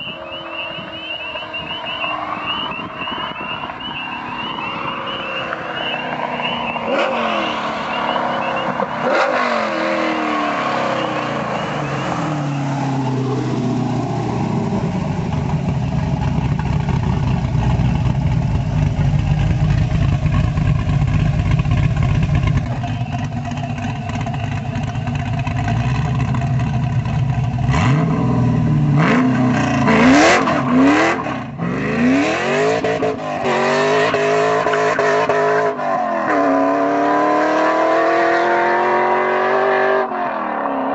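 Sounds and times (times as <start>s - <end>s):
car engine accelerating and passing: 0.0s - 40.9s
car engine revving: 0.0s - 40.9s.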